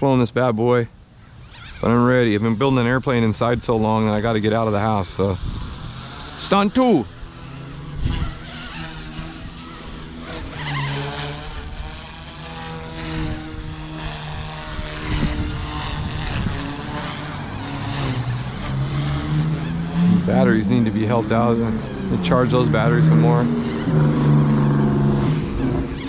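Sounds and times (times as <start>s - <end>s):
rc helicopter motor whine: 1.0s - 26.0s
wind noise on microphone: 1.4s - 26.0s.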